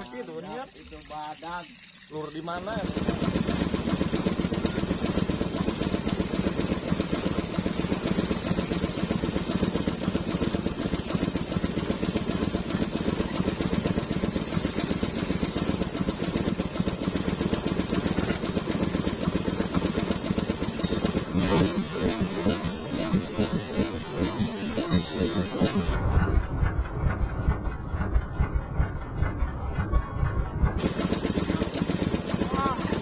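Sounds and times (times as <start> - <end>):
boat engine running: 0.9 - 33.0.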